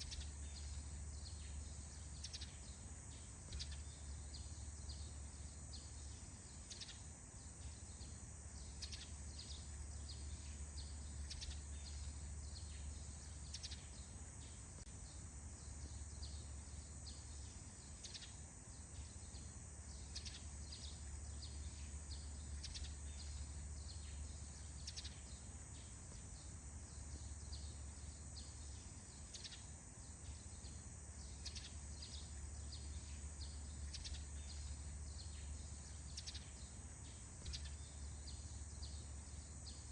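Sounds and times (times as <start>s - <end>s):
birds chirping: 0.0s - 39.9s
steady high-pitched hiss: 0.0s - 39.9s.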